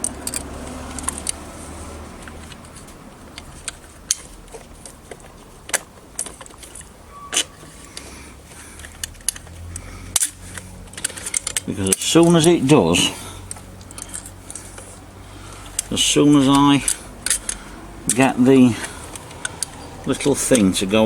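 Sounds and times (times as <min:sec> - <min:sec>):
small metal parts clicking: 0:00.0 - 0:01.5, 0:02.2 - 0:21.0.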